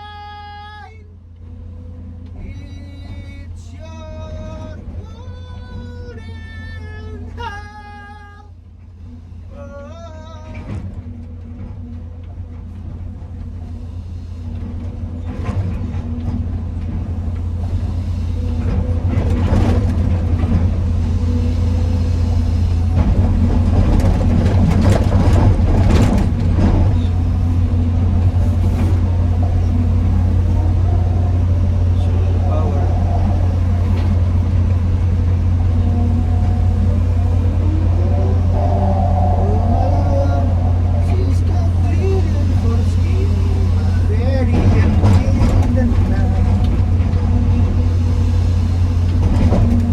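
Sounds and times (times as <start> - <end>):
excavator diesel engine droning: 0.0 - 49.9
machinery clatter: 9.6 - 49.9.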